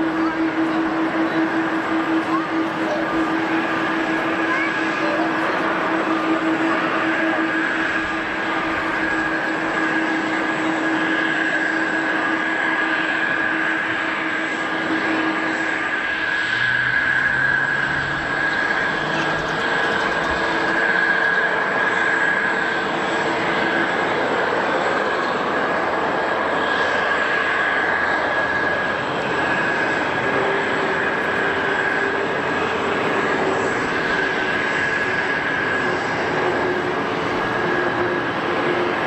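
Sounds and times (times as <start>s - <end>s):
high engine whine: 0.0s - 39.0s
jet engines rushing: 0.0s - 39.0s.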